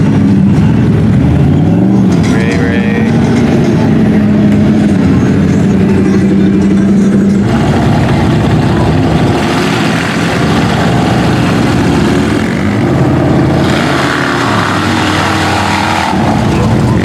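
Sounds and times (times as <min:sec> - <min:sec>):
off-road vehicle engines running: 0:00.0 - 0:17.0.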